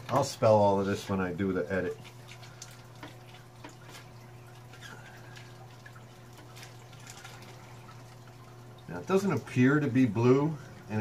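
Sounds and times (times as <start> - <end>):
water splashing and dripping: 0.0 - 10.8
steady low hum: 0.0 - 11.0.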